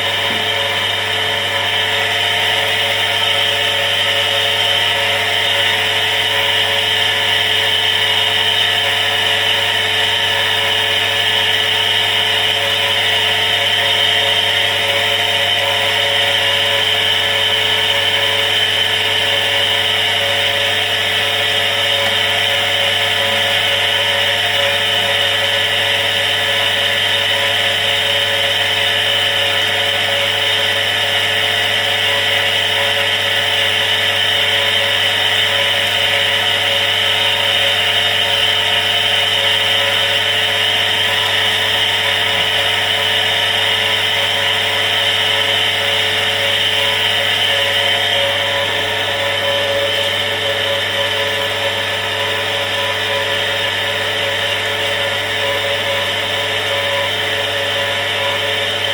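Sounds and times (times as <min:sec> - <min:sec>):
water pump motor hum: 0:00.0 - 0:58.9.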